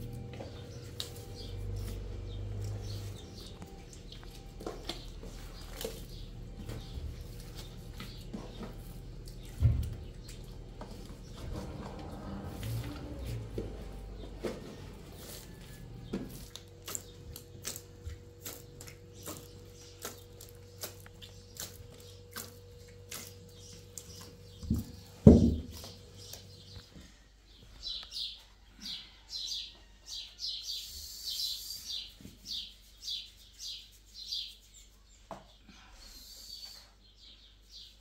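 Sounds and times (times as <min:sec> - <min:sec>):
bird chirping: 0:00.3 - 0:35.3.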